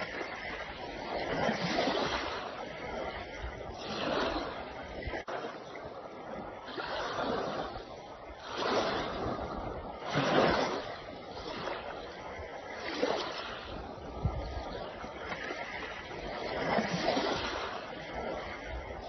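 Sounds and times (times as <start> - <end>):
waves washing in: 0.0 - 19.0.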